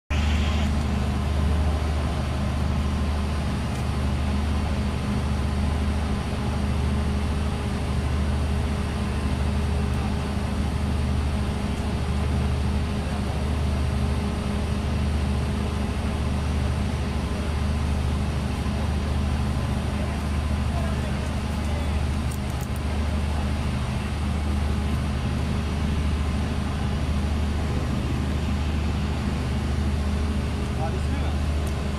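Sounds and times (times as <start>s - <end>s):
diesel engine idling: 0.1s - 31.9s.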